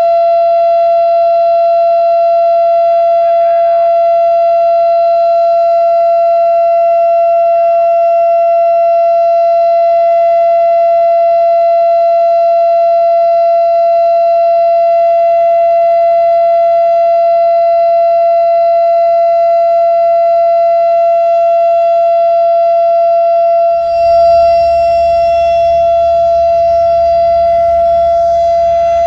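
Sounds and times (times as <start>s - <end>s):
warning siren steady tone: 0.0s - 29.0s.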